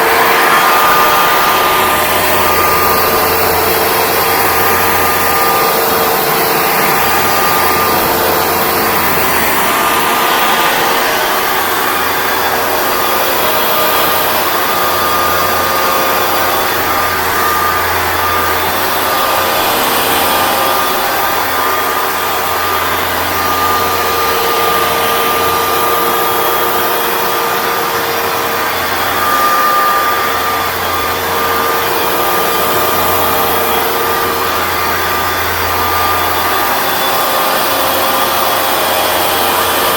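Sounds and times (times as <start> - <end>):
carpet cleaner running: 0.0 - 39.9.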